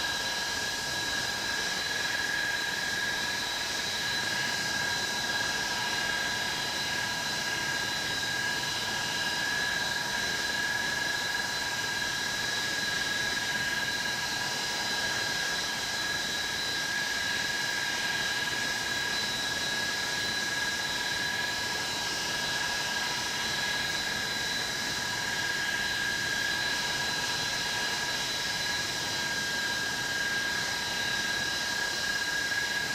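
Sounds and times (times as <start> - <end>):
jet engines running: 0.0 - 32.9.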